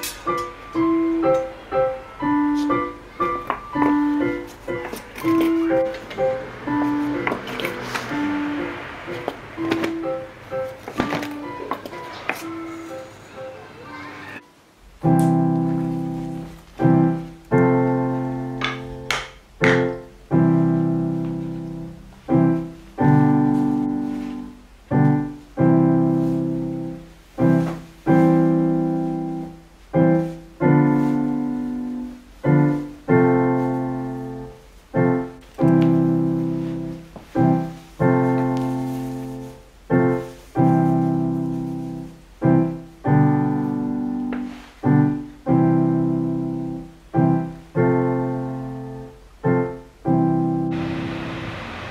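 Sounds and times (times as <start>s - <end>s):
slow solo piano chords: 0.0s - 14.0s, 14.9s - 51.9s.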